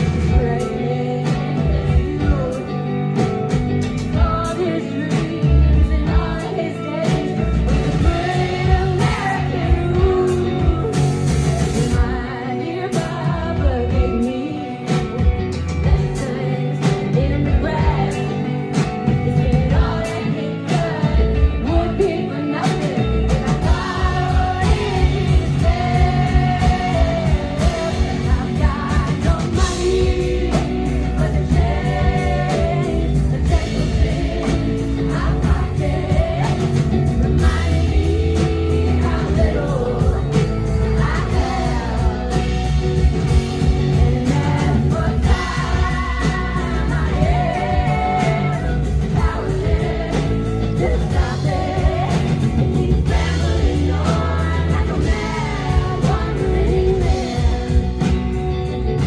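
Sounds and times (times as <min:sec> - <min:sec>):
live rock band playing: 0:00.0 - 0:59.0
woman singing lead vocal: 0:00.0 - 0:59.0.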